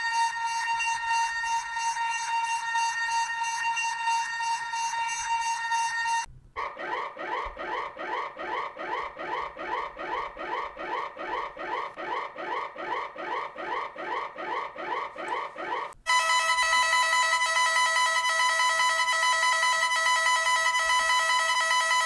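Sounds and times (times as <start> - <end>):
steady multi-tone alarm: 0.0 - 22.0.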